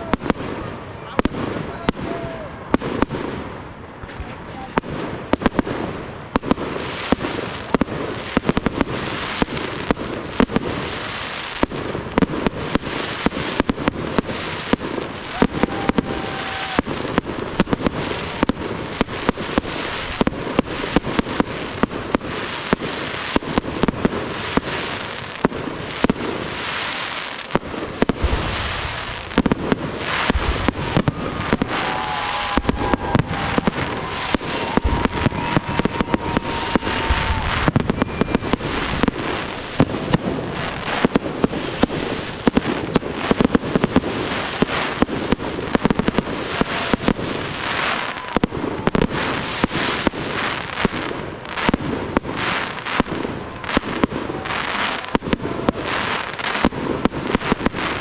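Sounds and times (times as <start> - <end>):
deep firework booms: 0.0 - 26.6, 27.5 - 58.0
fireworks crackling: 0.0 - 58.0.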